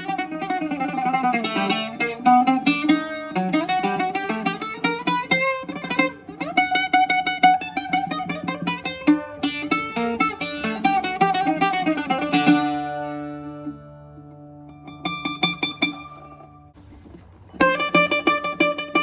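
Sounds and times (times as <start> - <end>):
bouzouki played solo: 0.0 - 19.0.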